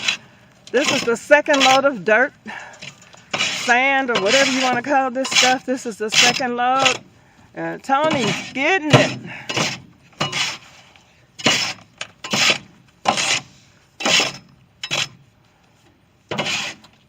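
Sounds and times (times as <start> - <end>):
shovel scraping sandy dirt: 0.0 - 2.2, 3.2 - 7.1, 8.0 - 15.2, 16.3 - 16.9.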